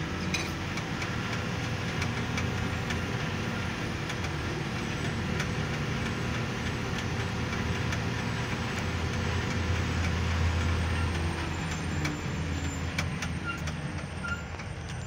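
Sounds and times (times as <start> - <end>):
tyre noise on road: 0.0 - 15.0.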